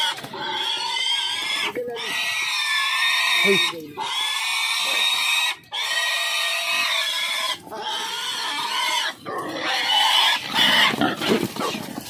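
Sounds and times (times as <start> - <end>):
pigs squealing: 0.0 - 12.0.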